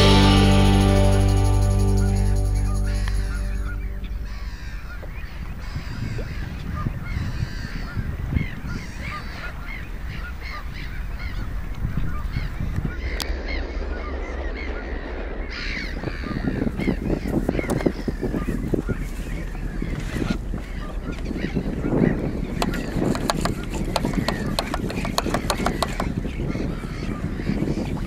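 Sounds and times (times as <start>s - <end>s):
flock of birds calling: 2.0s - 28.0s
wind and water rushing: 3.8s - 28.0s.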